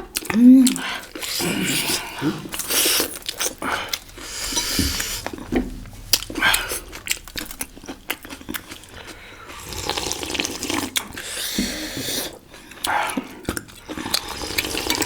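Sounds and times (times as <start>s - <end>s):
wet chewing and slurping: 0.0s - 15.0s.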